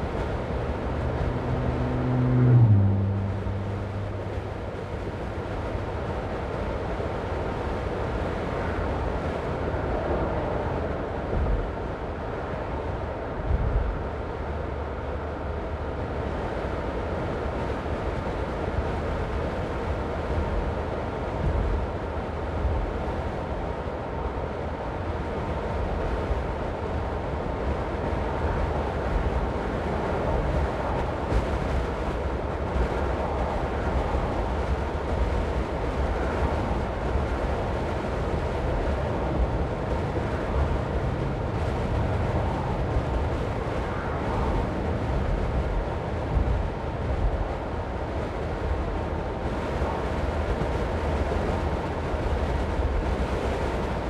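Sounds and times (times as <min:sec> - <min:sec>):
car driving tyre and engine rumble: 0:00.0 - 0:54.0.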